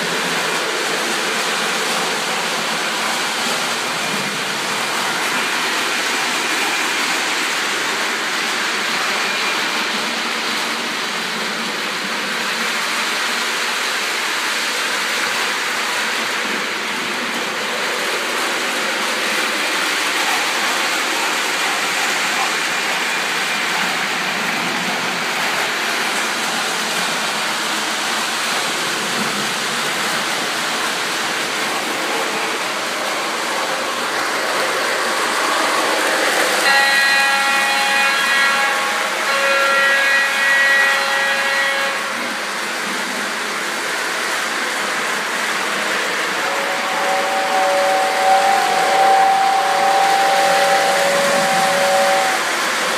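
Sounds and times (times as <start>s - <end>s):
model trains running on track: 0.0s - 52.9s.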